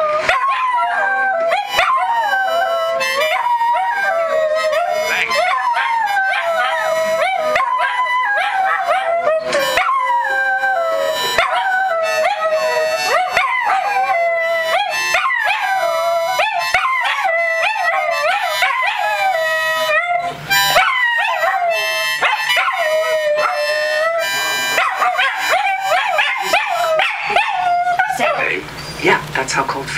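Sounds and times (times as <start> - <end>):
dogs howling together: 0.0 - 28.5.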